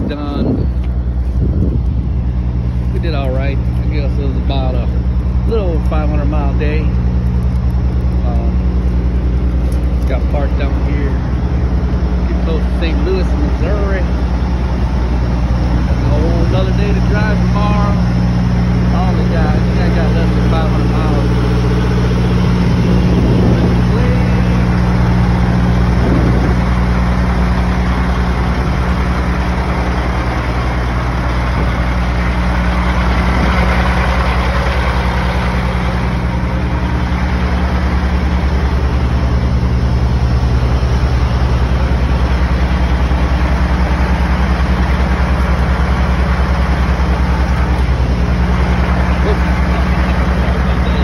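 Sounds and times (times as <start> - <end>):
truck diesel engine idling: 0.0 - 51.0.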